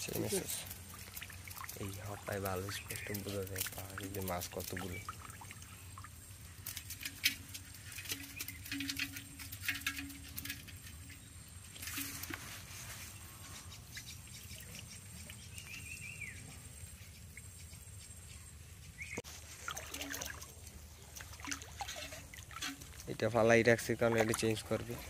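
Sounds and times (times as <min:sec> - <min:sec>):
crackly rustling of bamboo trap: 0:00.0 - 0:05.6, 0:06.3 - 0:16.5, 0:19.2 - 0:25.0
water dripping and pattering: 0:00.0 - 0:12.7, 0:13.5 - 0:25.0.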